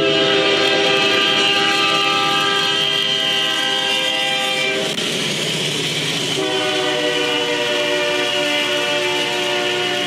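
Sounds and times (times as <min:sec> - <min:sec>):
train air horn: 0:00.0 - 0:05.0, 0:06.3 - 0:10.0
passing train rumble: 0:00.0 - 0:10.0.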